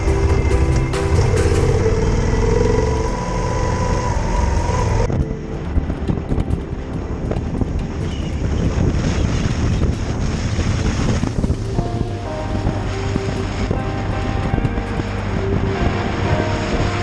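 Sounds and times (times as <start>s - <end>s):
motorcycle engine at road speed: 0.0s - 17.0s
wind rumbling on microphone: 0.0s - 17.0s.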